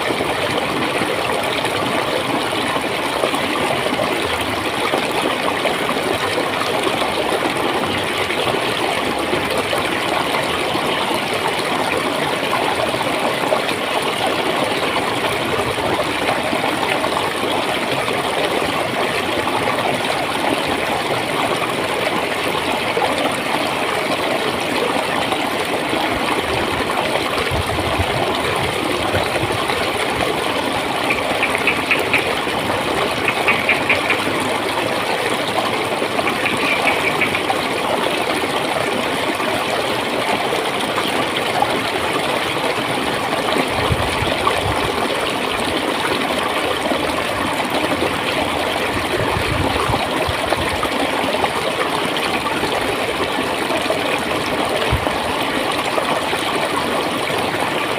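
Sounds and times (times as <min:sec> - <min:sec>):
water flowing and gurgling: 0:00.0 - 0:57.9.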